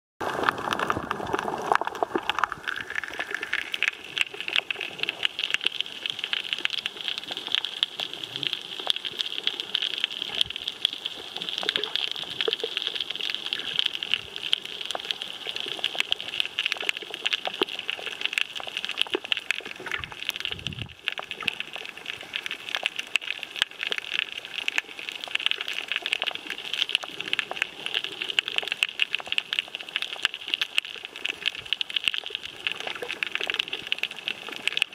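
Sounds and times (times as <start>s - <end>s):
underwater crackle of clicks: 0.2s - 34.9s.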